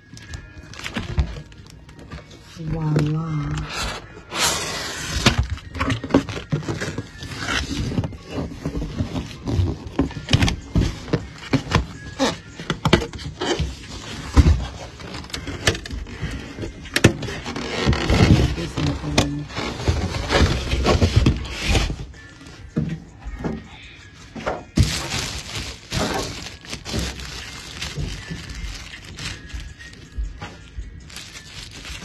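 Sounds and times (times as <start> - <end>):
packaging scraping and rustling: 0.0 - 22.3, 24.7 - 32.0.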